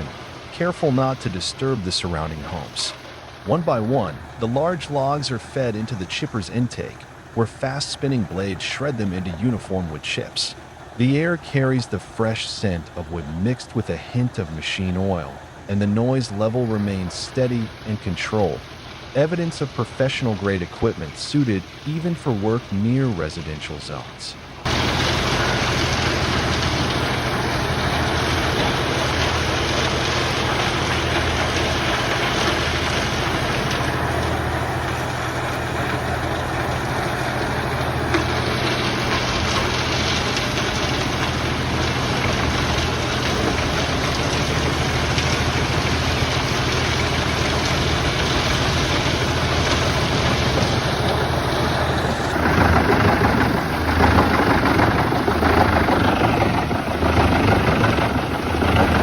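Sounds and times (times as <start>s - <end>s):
wood chipper chipping logs: 0.0s - 22.0s, 24.6s - 59.0s.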